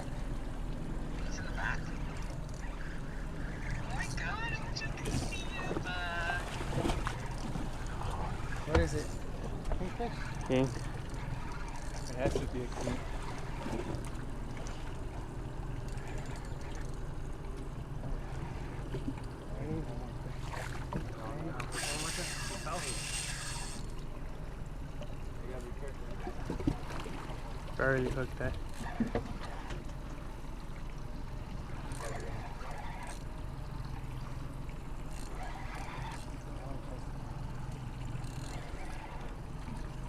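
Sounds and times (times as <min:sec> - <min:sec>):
boat engine humming: 0:00.0 - 0:40.0
water sloshing against hull: 0:00.0 - 0:40.0.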